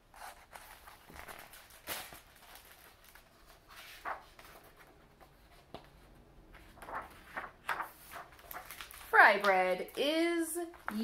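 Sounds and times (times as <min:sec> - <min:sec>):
book pages rustling: 0:00.1 - 0:11.0.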